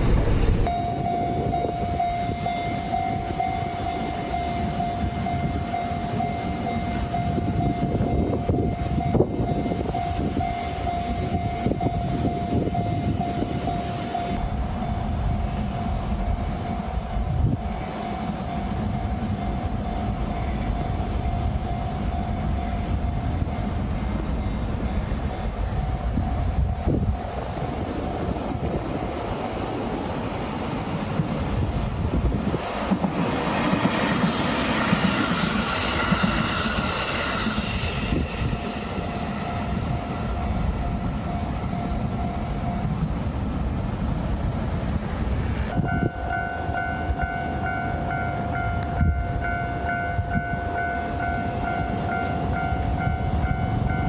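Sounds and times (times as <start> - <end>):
train wheels rumbling on rails: 0.0 - 54.0
crossing alarm ringing tone: 0.7 - 32.0, 32.6 - 43.4, 45.7 - 54.0.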